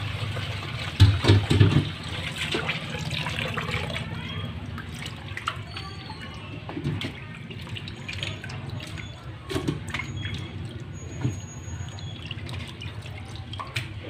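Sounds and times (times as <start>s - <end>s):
water sloshing in a metal bowl: 0.0s - 14.0s.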